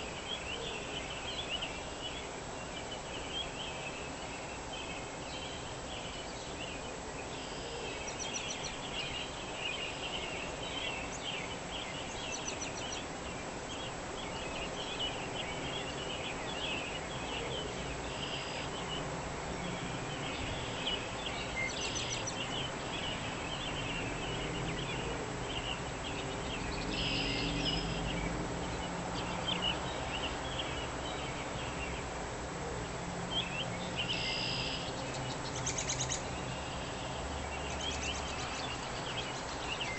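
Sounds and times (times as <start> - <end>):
outdoor background hiss: 0.0 - 39.9
small birds chirping: 0.0 - 39.9.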